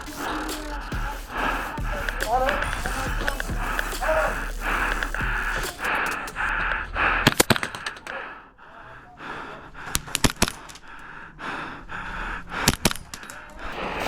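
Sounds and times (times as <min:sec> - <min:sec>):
heavy gasping breathing: 0:00.0 - 0:13.8.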